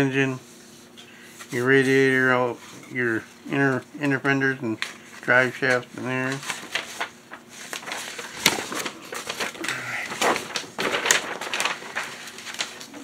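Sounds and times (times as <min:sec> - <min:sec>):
paper rustling and crinkling: 0:01.4 - 0:13.0.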